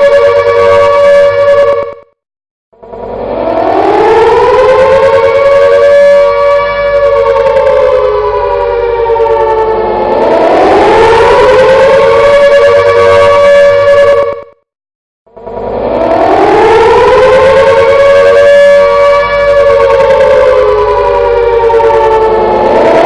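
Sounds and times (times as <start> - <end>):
air raid siren wailing: 0.0 - 2.2, 2.8 - 14.6, 15.3 - 23.0.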